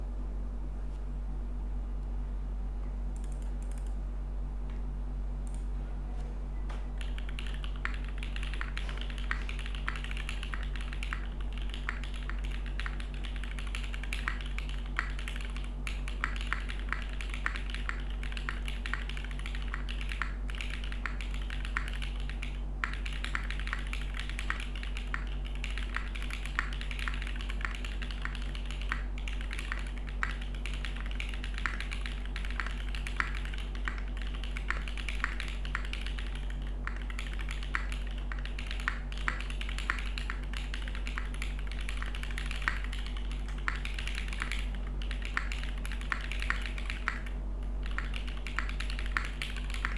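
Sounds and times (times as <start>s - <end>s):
steady low hum: 0.0s - 49.9s
mechanical keyboard typing: 3.2s - 4.0s, 7.0s - 49.9s.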